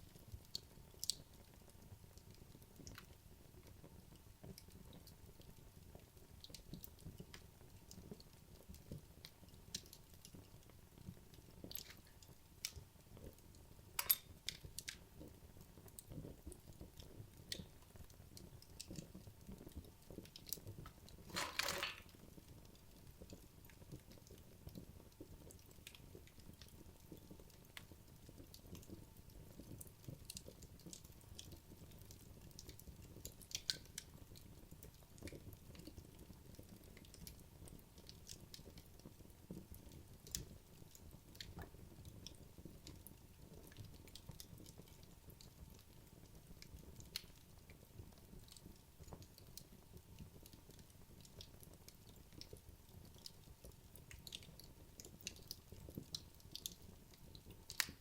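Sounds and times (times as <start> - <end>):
logs crackling in fireplace: 0.0 - 58.0.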